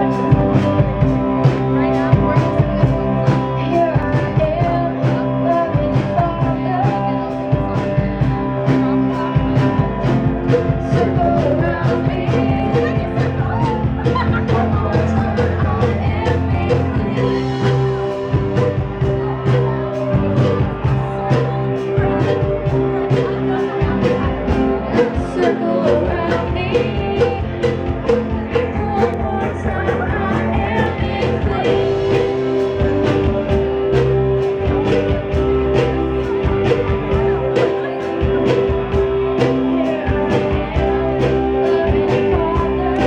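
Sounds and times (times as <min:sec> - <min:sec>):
rock and roll song with singing: 0:00.0 - 0:43.0.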